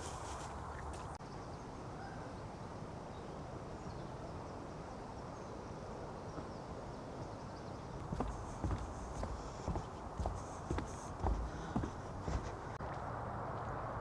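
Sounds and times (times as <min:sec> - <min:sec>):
low rush of background noise: 0:00.0 - 0:14.0.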